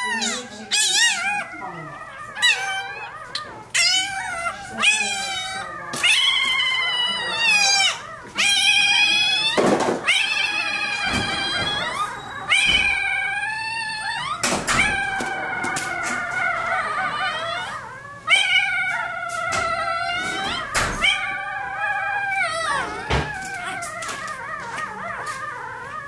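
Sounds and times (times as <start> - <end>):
puppy crying with high squeals: 0.0 - 26.0.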